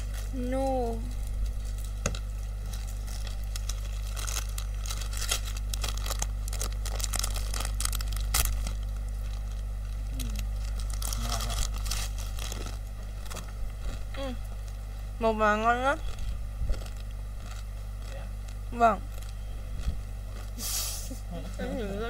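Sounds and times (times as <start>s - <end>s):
plastic snack packet crinkling: 0.0s - 14.8s, 15.9s - 20.6s.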